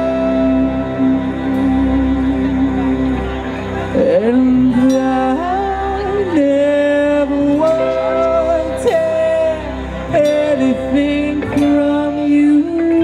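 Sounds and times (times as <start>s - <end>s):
acoustic guitar: 0.0s - 13.0s
electric guitar: 0.0s - 13.0s
keyboard: 0.0s - 13.0s
singer holding long notes: 0.0s - 13.0s.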